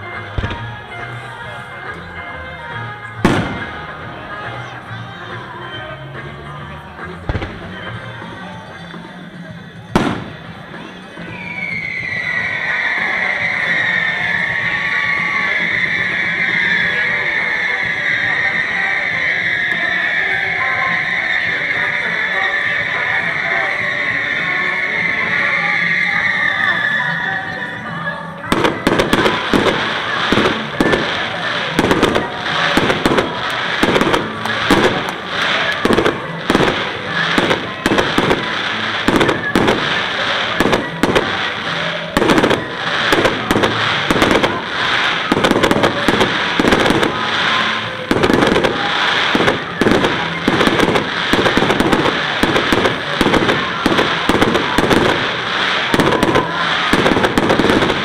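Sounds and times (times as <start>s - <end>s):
firework bursts: 0.1s - 1.4s, 3.2s - 4.6s, 7.2s - 8.6s, 9.8s - 27.7s, 28.5s - 58.0s.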